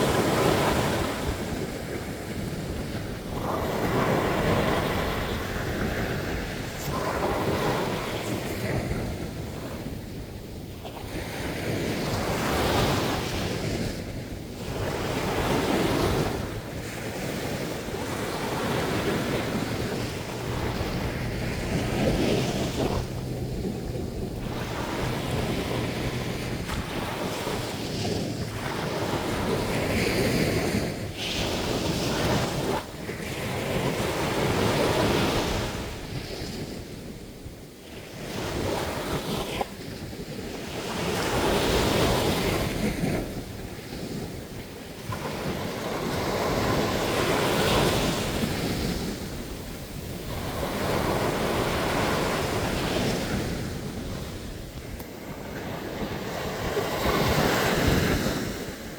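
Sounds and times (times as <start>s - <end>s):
sea waves breaking on beach: 0.0s - 58.9s
wind on microphone: 0.0s - 58.9s.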